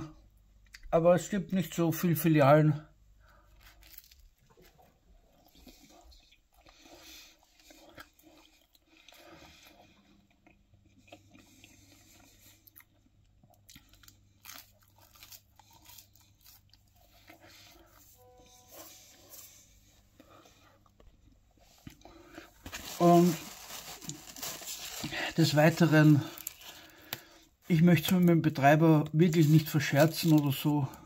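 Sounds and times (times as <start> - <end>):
person chewing pizza: 3.2 - 28.4.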